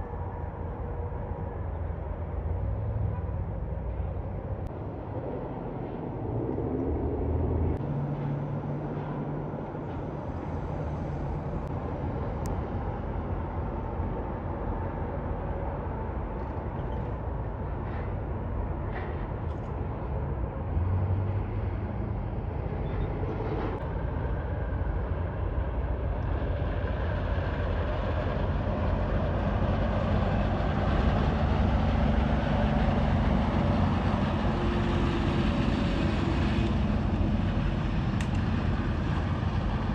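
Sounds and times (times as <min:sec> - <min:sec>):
heavy truck engine rumble: 0:00.0 - 0:39.9.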